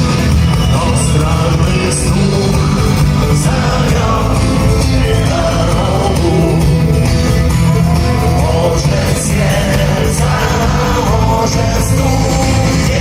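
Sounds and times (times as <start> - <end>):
heavy bass line: 0.0 - 13.0
rock song: 0.0 - 13.0
person singing: 0.7 - 7.0, 7.9 - 13.0.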